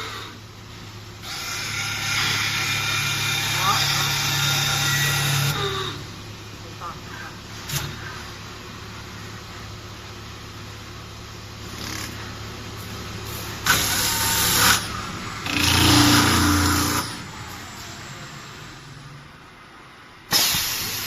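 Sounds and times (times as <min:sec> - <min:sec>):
machine humming: 0:00.0 - 0:20.3.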